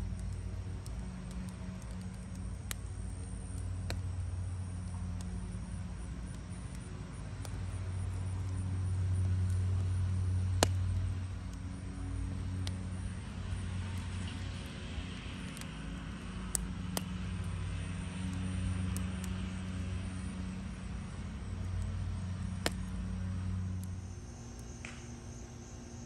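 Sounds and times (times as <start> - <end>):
wood fire popping: 0.0 - 25.6.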